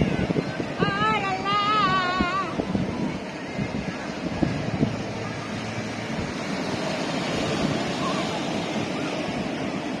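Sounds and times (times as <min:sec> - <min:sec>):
ocean waves breaking on shore: 0:00.0 - 0:10.0.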